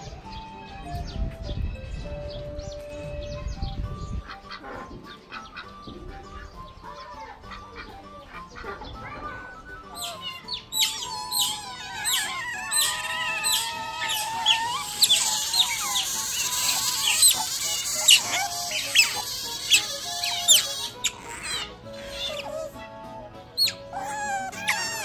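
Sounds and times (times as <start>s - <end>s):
background music: 0.0s - 25.0s
otters squeaking and chirping: 3.1s - 25.0s.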